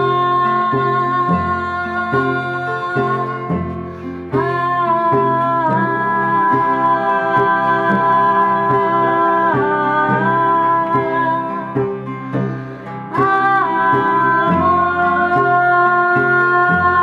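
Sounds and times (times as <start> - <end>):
cello: 0.0 - 17.0
strummed acoustic guitars: 0.0 - 17.0
women singing in harmony: 0.0 - 17.0.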